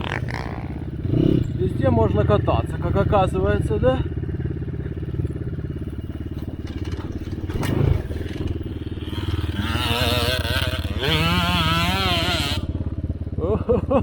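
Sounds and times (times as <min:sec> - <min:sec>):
dirt bike engine idling: 0:00.0 - 0:14.0
dirt bike engine revving: 0:00.0 - 0:14.0.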